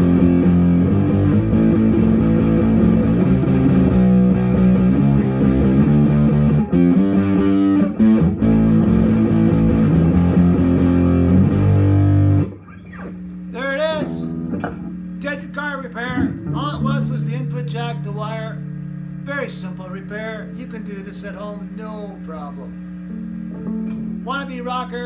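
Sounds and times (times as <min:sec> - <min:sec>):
electric guitar chords: 0:00.0 - 0:20.6, 0:22.7 - 0:25.0.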